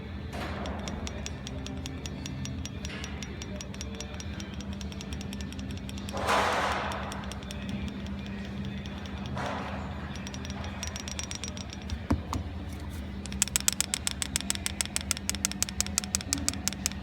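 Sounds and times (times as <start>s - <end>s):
fast metallic ticking: 0.0s - 17.0s.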